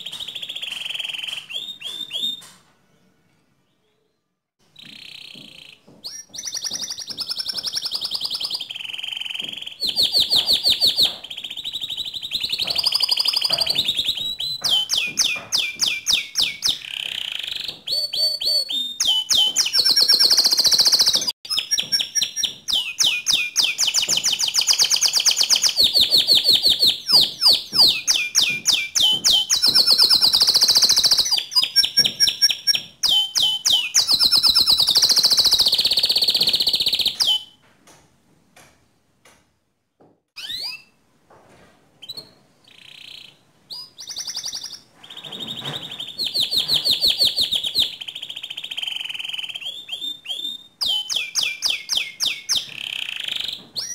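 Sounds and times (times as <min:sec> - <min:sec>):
canary singing trills: 0:00.0 - 0:02.6, 0:04.7 - 0:37.6, 0:42.0 - 0:53.9.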